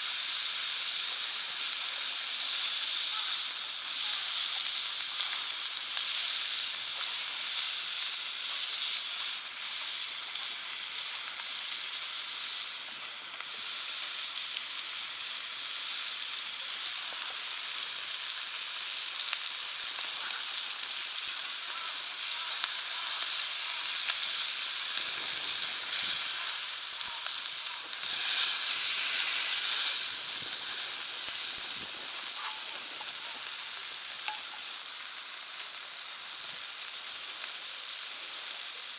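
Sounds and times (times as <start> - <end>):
meat sizzling on a grill pan: 0.0 - 38.9.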